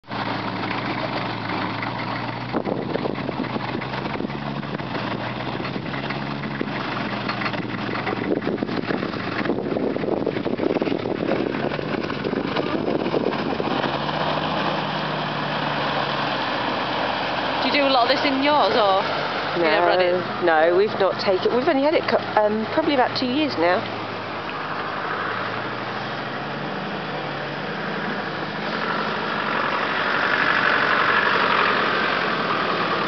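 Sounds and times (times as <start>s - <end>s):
off-road vehicle engines running: 0.0s - 33.0s
higher-pitched second engine: 0.1s - 33.0s.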